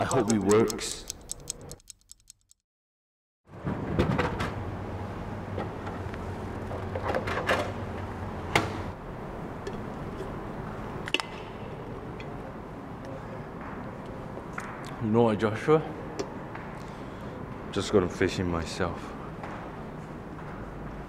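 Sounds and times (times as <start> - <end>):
room hum: 3.5 - 21.0.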